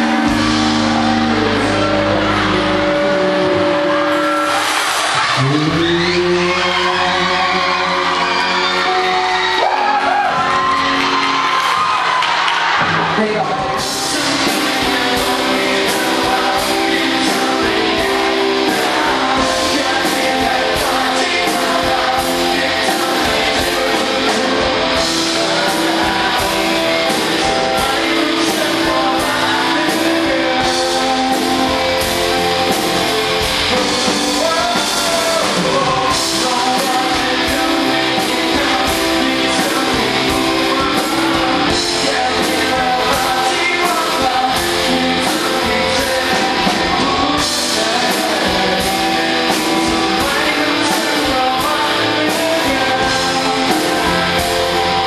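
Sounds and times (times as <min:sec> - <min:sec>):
drums keeping steady beat: 0:00.0 - 0:06.0, 0:09.9 - 0:55.0
person singing: 0:00.0 - 0:11.1, 0:13.3 - 0:55.0
live pop-rock band: 0:00.0 - 0:55.0.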